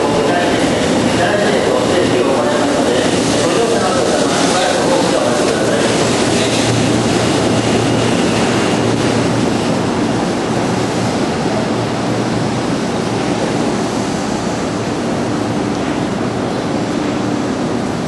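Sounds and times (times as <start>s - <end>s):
train rushing past: 0.0s - 18.0s.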